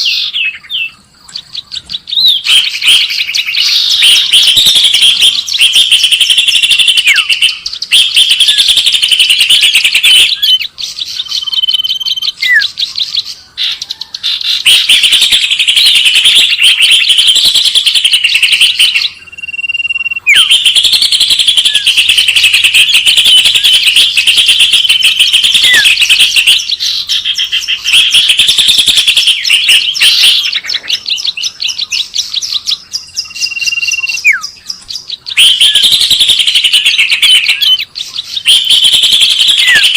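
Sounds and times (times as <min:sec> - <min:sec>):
bird whistles: 0:00.0 - 0:39.9
songbirds chirping and trilling: 0:00.0 - 0:39.9.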